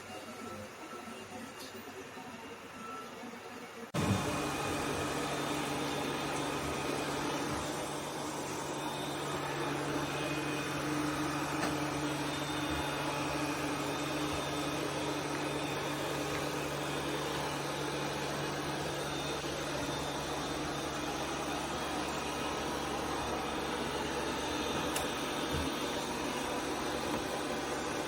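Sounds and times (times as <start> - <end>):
robot vacuum cleaner running: 4.0 - 28.0.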